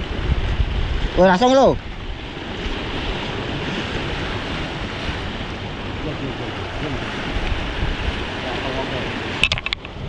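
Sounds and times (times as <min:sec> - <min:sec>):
sea waves washing over rocks: 0:00.0 - 0:10.0
wind rumbling on microphone: 0:00.0 - 0:10.0.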